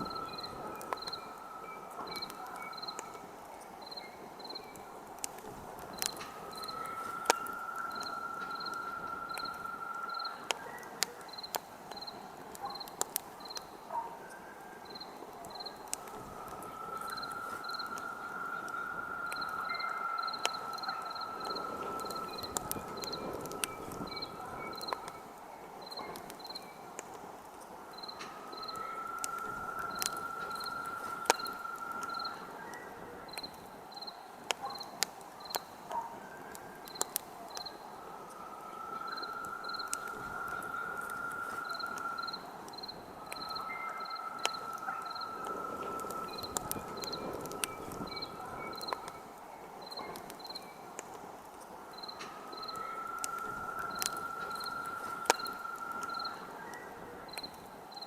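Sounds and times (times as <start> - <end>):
insect trill: 0.0 - 4.7, 5.9 - 12.2, 14.8 - 26.7, 27.9 - 35.6, 36.9 - 49.2, 51.9 - 56.6
campfire crackling: 0.0 - 58.0
insects chirping: 0.0 - 58.0.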